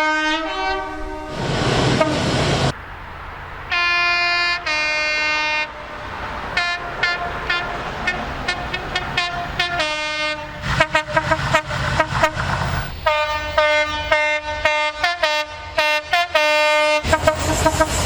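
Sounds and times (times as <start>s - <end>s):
two-tone train horn: 0.0s - 2.4s, 3.7s - 18.0s.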